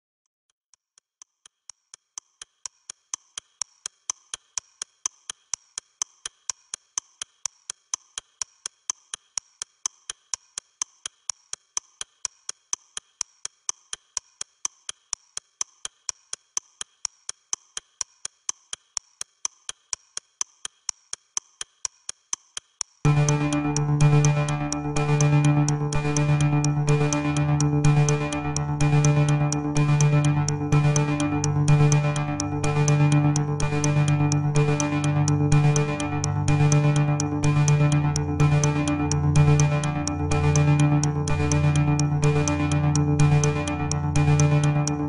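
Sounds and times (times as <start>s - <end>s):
clock ticking: 0.9s - 45.0s.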